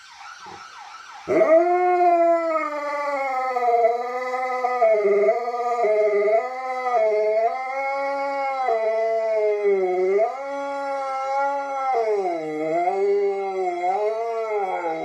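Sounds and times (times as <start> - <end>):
dog howling: 1.3 - 15.0.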